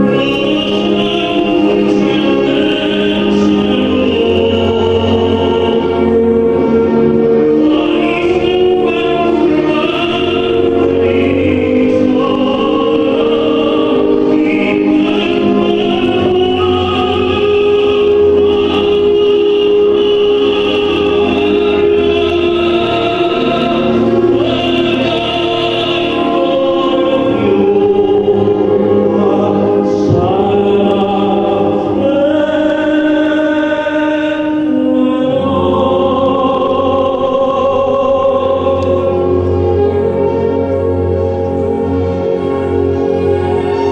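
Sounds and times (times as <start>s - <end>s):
man singing long held notes: 0.0s - 41.2s
choral and orchestral backing: 0.0s - 43.9s
musical accompaniment: 0.0s - 43.9s.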